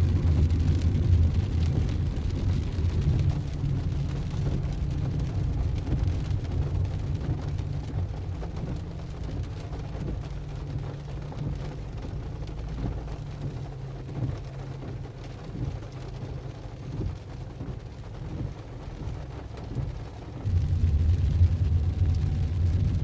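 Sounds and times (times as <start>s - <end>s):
car rumbling on road: 0.0s - 23.0s
rain hissing and pattering: 0.0s - 23.0s.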